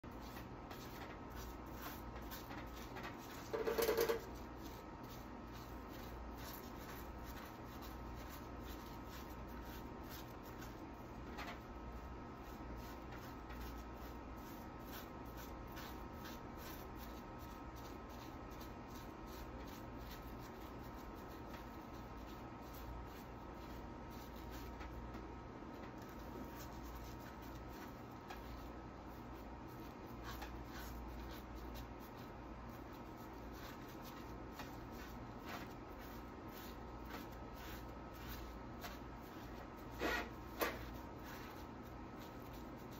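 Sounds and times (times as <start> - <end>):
paintbrush dabbing on wood: 0.1 - 42.9.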